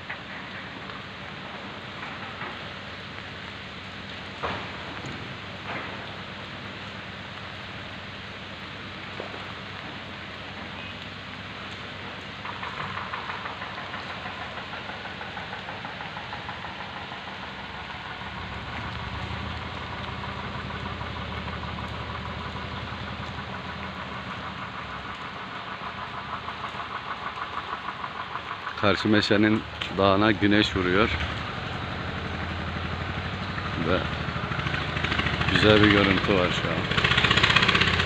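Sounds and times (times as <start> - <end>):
engine running pulsing: 0.0 - 38.0
rain hiss: 0.0 - 38.0.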